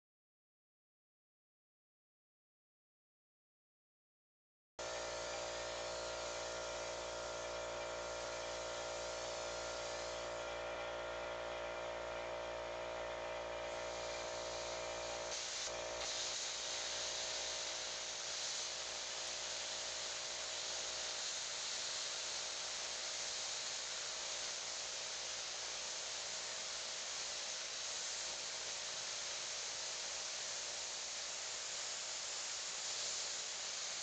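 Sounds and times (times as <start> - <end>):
plasma cutter hum and hiss: 4.8 - 34.0.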